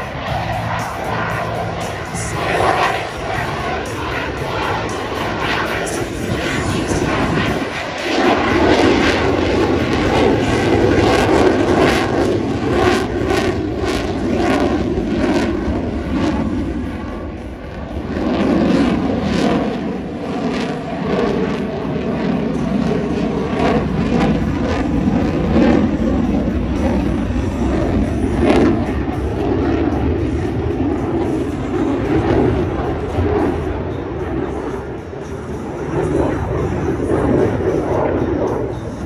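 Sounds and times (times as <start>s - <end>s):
jet flying past: 0.0s - 39.0s.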